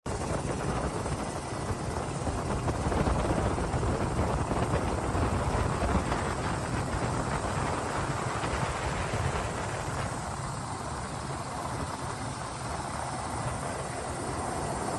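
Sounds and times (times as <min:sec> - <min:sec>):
helicopter engine and rotor: 0:00.0 - 0:14.9.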